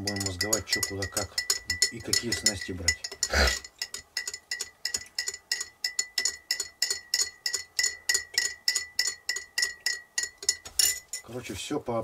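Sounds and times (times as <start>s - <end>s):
teaspoon clinking in mug: 0.0s - 11.3s.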